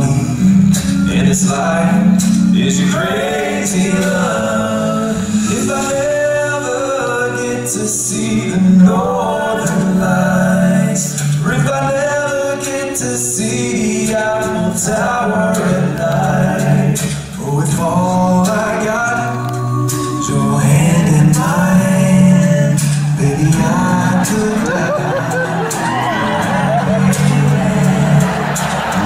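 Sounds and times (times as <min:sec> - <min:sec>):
male a cappella group singing: 0:00.0 - 0:29.0.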